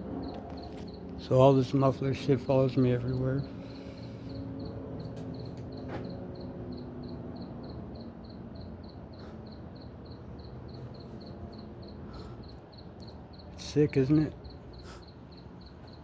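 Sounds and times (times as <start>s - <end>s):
cricket chirping: 0.0s - 16.0s
vehicle engine rumble: 0.0s - 16.0s.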